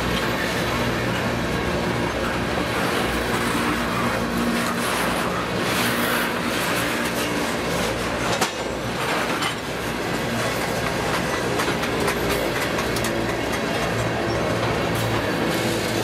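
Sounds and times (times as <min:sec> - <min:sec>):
train wheels rumbling on rail: 0:00.0 - 0:16.0
wheels clicking over rail joints: 0:00.0 - 0:16.0.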